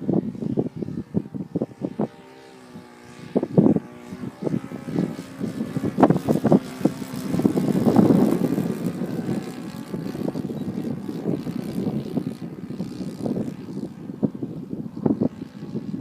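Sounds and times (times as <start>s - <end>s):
model plane engine and propeller: 0.0s - 16.0s.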